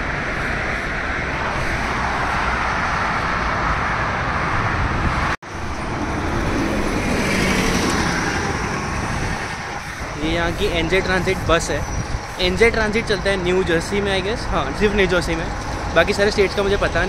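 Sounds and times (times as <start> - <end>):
city bus running: 0.0 - 17.0
highway traffic roar: 0.0 - 17.0.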